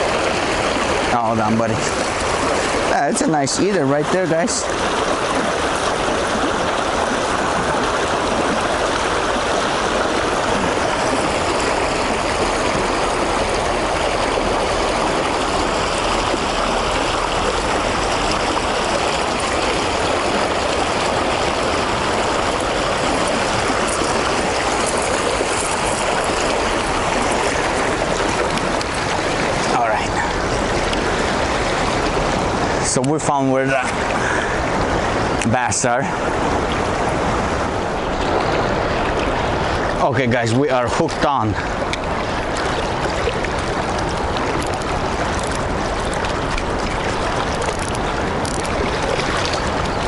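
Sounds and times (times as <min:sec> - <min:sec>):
river current rushing: 0:00.0 - 0:50.0.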